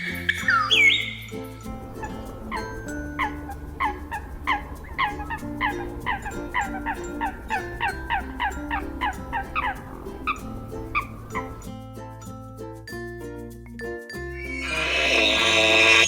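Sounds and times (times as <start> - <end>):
bird calling in falling notes: 0.0 - 11.7, 14.4 - 16.0
background music: 0.0 - 16.0.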